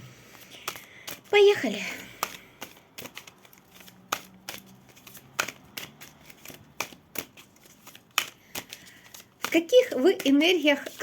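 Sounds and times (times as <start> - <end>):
cards being shuffled: 0.3 - 11.0.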